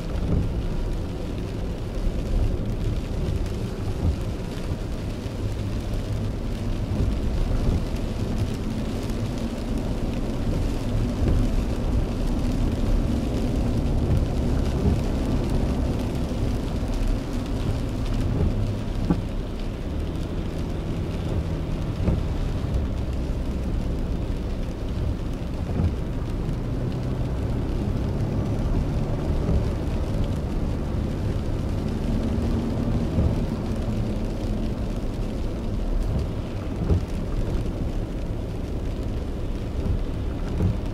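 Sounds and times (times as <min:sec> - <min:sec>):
car engine and tyres rumbling: 0:00.0 - 0:40.9
rain on car roof: 0:00.0 - 0:40.9.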